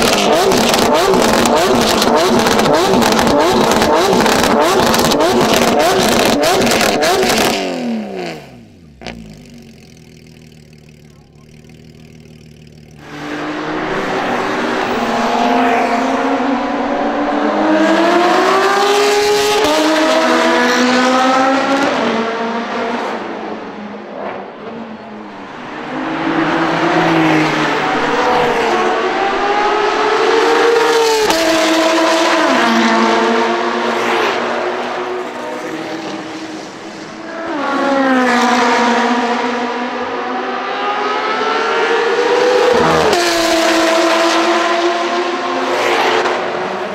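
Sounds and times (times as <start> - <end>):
sports car engine accelerating: 0.0 - 46.9.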